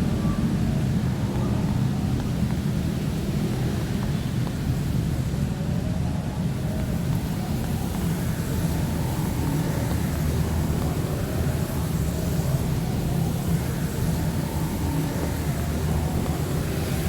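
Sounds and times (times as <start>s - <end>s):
heavy rain on street: 0.0s - 17.0s
low rumble of traffic: 0.0s - 17.0s.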